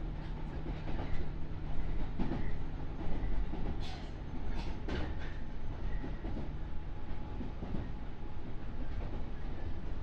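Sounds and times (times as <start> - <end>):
train wheels clickety-clack: 0.0 - 10.0
train wheels rumbling on rail: 0.0 - 10.0.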